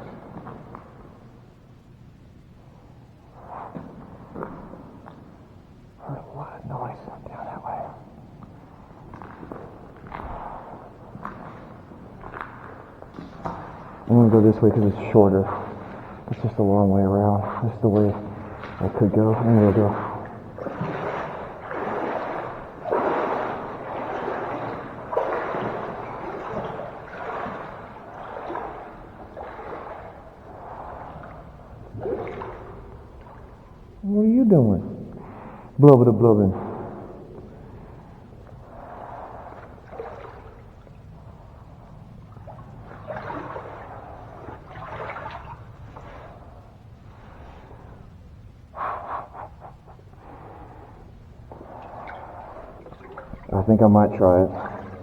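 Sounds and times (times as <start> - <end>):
low steady rumble: 0.0 - 55.0
wading through water: 0.0 - 55.0.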